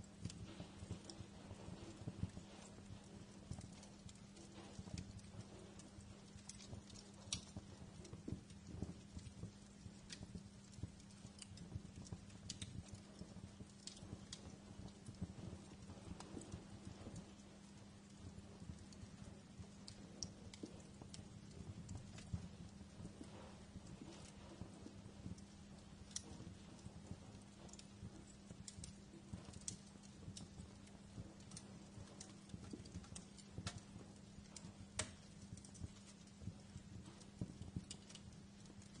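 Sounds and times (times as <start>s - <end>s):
faint low hum: 0.0s - 39.0s
wood fire crackling: 0.0s - 39.0s.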